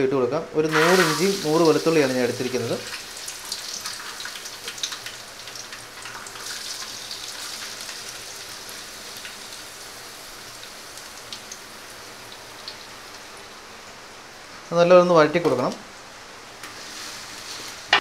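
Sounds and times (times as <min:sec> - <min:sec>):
food sizzling in hot oil: 0:00.7 - 0:14.2, 0:16.4 - 0:18.0.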